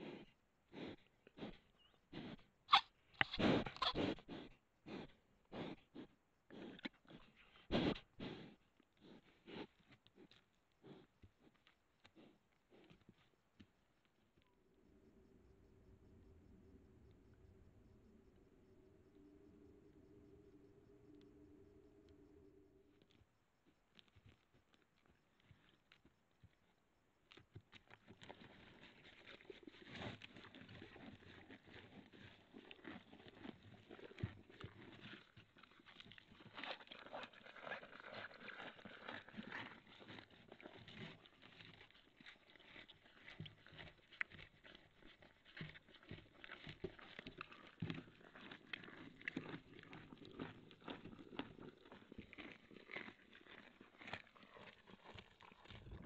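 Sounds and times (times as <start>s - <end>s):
deer rustling against camera: 0.0s - 13.7s, 23.0s - 56.0s.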